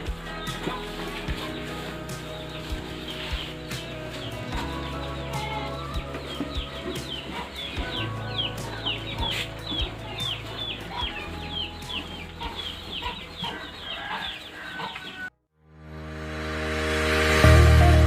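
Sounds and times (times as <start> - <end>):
music: 0.0 - 14.9, 15.6 - 18.0
chickens calling: 0.0 - 15.3.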